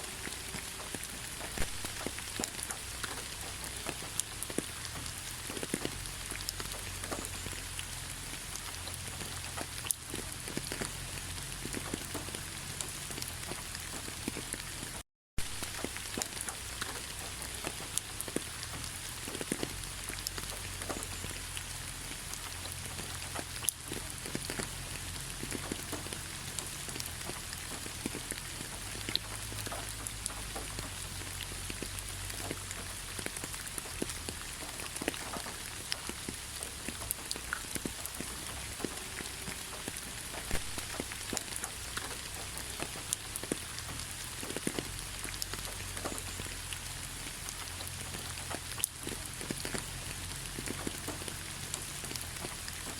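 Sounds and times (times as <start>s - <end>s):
steady rain with tapping drops: 0.0s - 52.9s.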